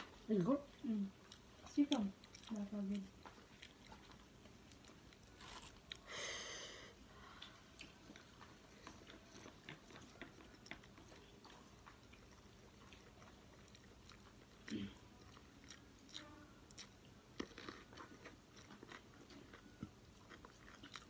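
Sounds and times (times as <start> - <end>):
soft chewing: 0.0 - 21.0.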